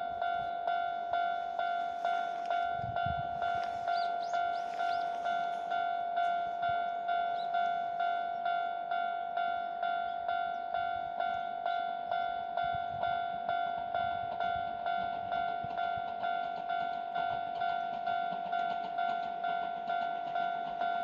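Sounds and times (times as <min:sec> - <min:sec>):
level-crossing warning bell ringing: 0:00.0 - 0:21.0.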